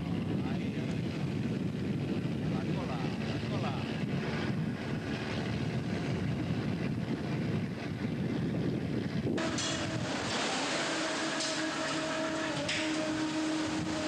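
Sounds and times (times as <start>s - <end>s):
machine hum: 0.0s - 14.0s
wind on microphone: 0.0s - 14.0s.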